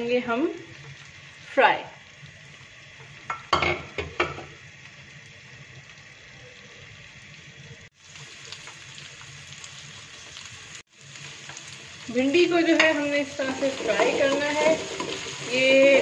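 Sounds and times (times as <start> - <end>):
okra sizzling in hot oil: 0.0 - 16.0.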